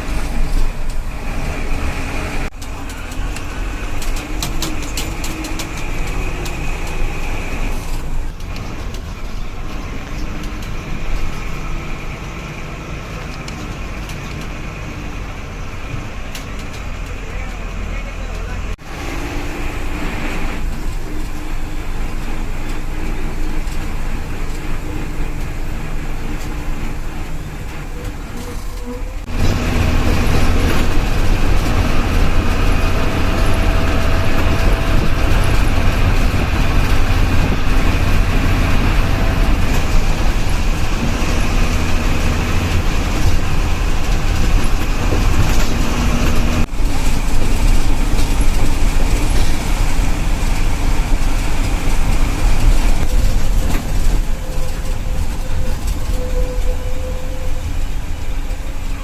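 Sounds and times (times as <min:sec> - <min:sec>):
bus engine drone: 0:00.0 - 0:59.0
road and tyre noise: 0:00.0 - 0:59.0.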